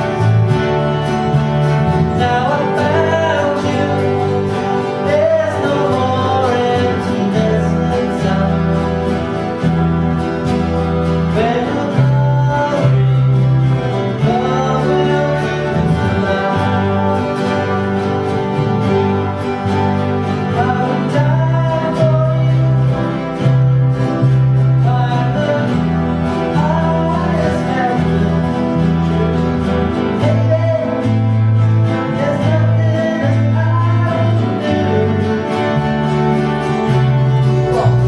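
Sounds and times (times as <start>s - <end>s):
acoustic guitars strumming chords: 0.0s - 38.0s.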